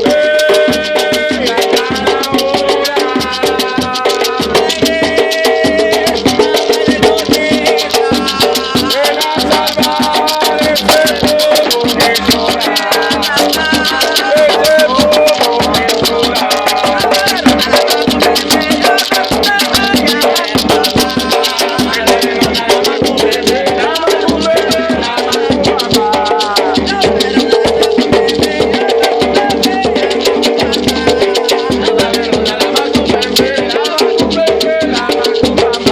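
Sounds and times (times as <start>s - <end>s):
hand drumming: 0.0s - 35.9s
shaken rattles: 0.0s - 35.9s.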